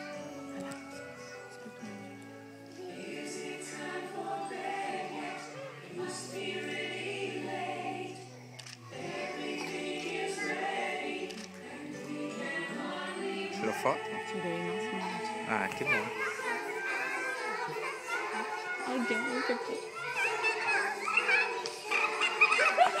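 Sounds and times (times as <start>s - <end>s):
sustained instrumental backing: 0.0s - 20.1s
choir singing: 1.6s - 23.0s.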